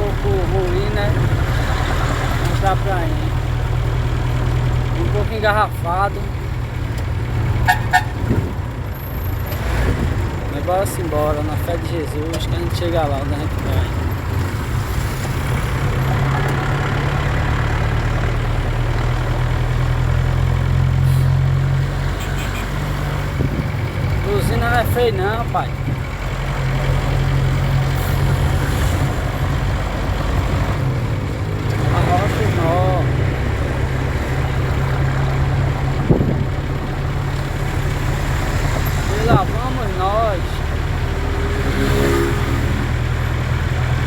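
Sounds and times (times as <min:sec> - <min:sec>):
truck engine rumbling: 0:00.0 - 0:44.0.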